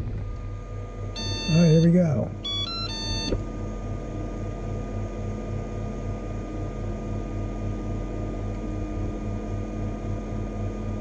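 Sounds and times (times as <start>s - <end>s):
printer fans whirring with pulse: 0.0s - 11.0s.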